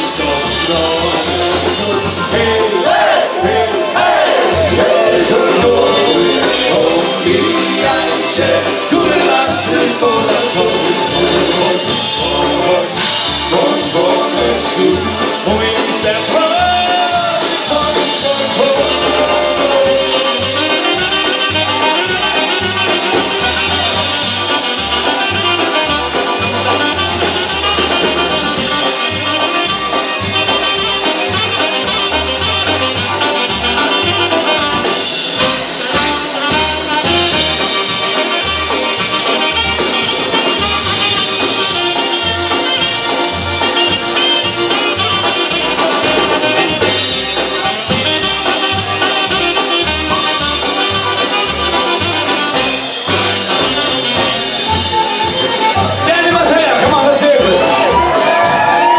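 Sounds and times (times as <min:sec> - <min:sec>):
polka band playing: 0:00.0 - 0:58.9.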